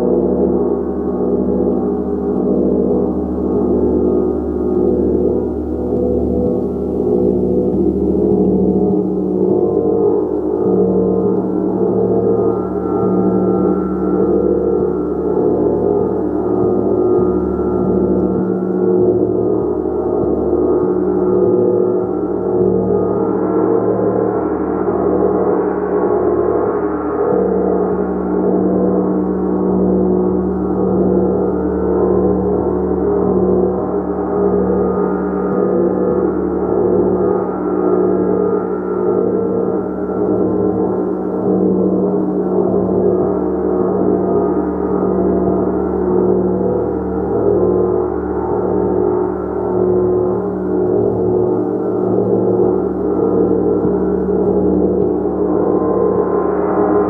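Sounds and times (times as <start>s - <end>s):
gong played continuously: 0.0s - 57.0s.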